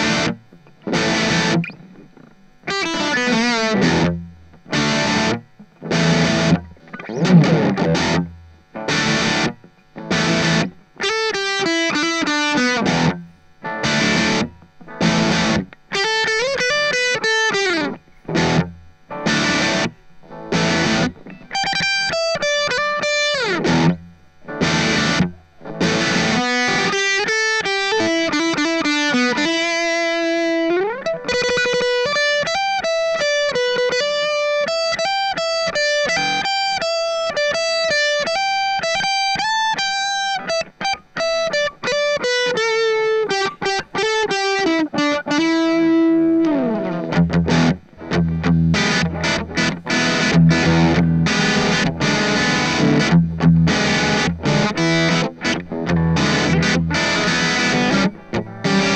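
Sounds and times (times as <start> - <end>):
distorted electric guitar: 0.0 - 58.9.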